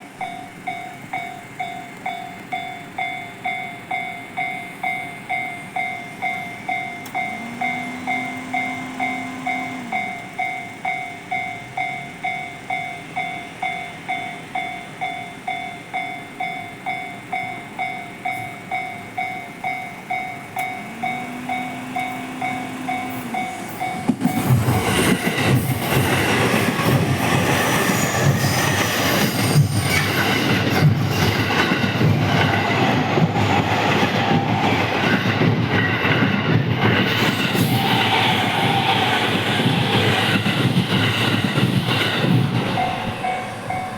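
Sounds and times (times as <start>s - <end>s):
level-crossing warning bell: 0.0s - 43.9s
train rushing past: 0.0s - 43.9s.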